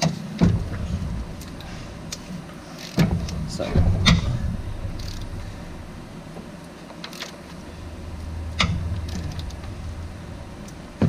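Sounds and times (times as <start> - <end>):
low steady hum: 0.4 - 11.0.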